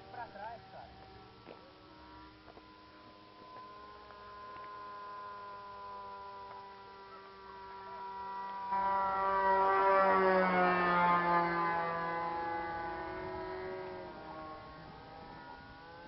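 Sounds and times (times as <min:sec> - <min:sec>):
model plane engine buzzing: 0:00.0 - 0:16.0.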